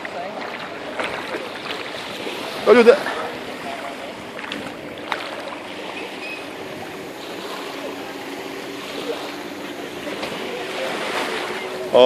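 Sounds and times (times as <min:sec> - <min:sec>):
small waves: 0:00.0 - 0:12.0
wind on the shore: 0:00.0 - 0:12.0.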